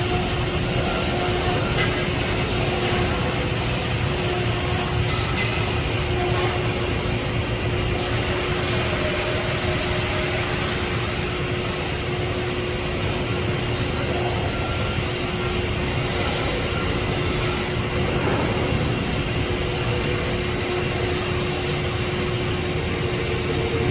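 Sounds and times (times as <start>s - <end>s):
machine drone: 0.0s - 23.9s.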